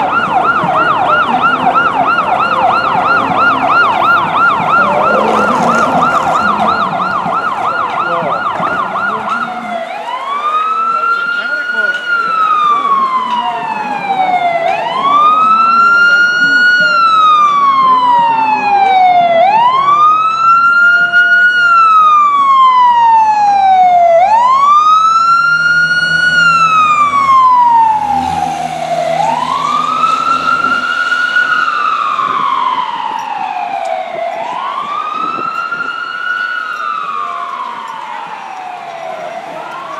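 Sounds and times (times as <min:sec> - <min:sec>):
fire engine siren wailing: 0:00.0 - 0:39.9
truck engine rumbling: 0:00.0 - 0:39.9.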